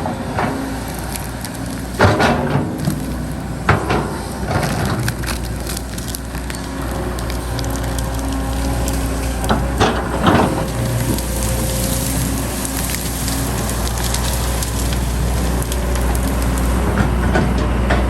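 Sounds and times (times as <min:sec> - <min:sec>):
heavy machinery diesel engine: 0:00.0 - 0:18.0
soil and stones crunching: 0:00.1 - 0:18.0.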